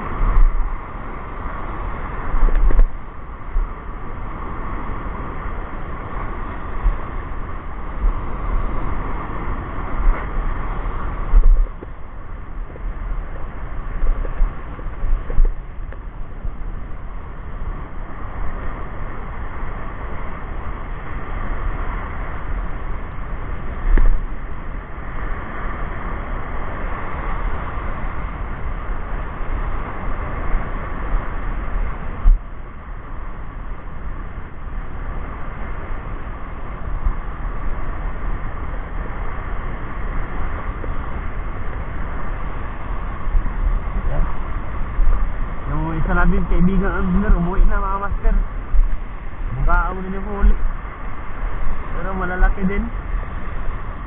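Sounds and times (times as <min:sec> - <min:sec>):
small waves breaking: 0:00.0 - 0:54.0
wind buffeting microphone: 0:00.0 - 0:54.0.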